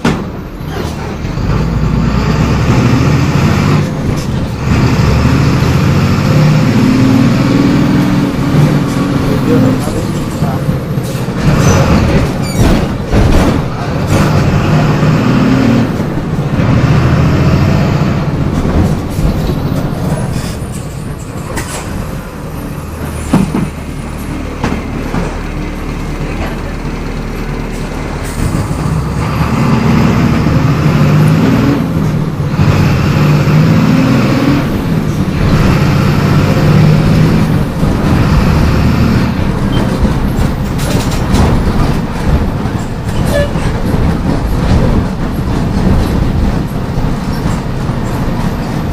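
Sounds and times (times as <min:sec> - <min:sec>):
bus diesel engine under load: 0:00.0 - 0:48.9.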